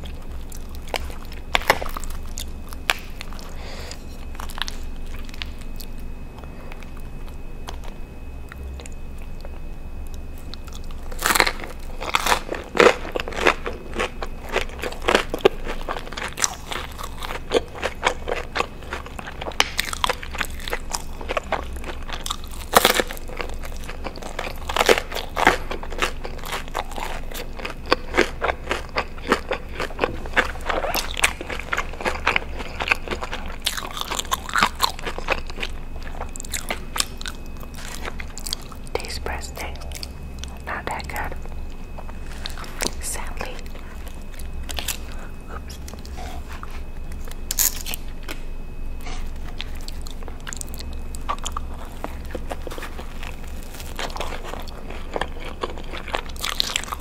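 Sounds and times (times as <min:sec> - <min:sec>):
biting and chewing food: 0:00.0 - 0:57.0.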